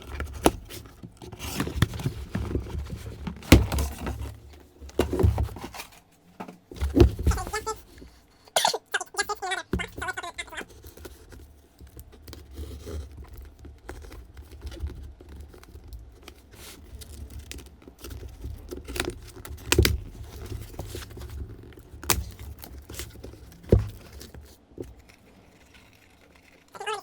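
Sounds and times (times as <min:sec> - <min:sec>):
cardboard packaging rustling: 0:00.0 - 0:08.3, 0:09.8 - 0:27.0.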